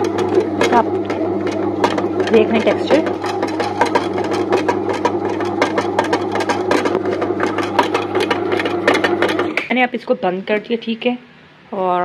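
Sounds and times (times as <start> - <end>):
dough knocking against pan: 0.0 - 9.7
dough kneader motor humming: 0.0 - 9.8.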